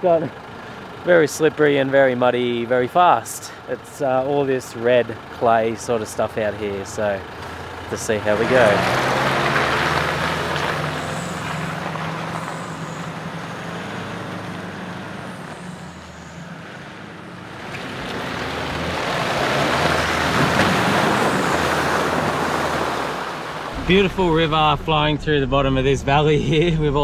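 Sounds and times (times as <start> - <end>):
tyres splashing through puddles: 0.0 - 24.8
truck engine driving off: 0.0 - 27.0.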